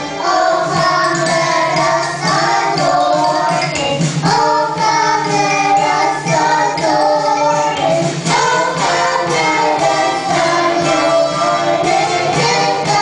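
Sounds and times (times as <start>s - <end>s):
children's choir singing: 0.0s - 13.0s
women singing: 0.0s - 13.0s.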